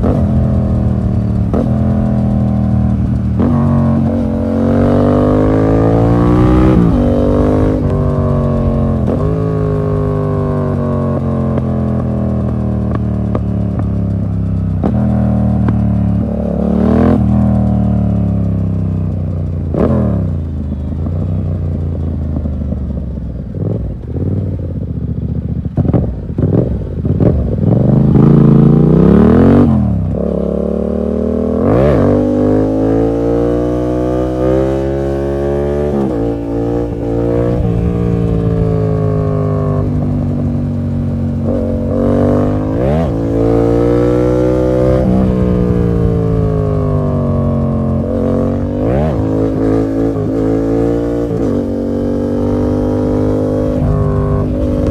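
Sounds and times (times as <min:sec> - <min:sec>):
exhaust cracks: 0:00.0 - 0:24.8, 0:33.6 - 0:54.9
motorcycle engine revving: 0:00.0 - 0:54.9.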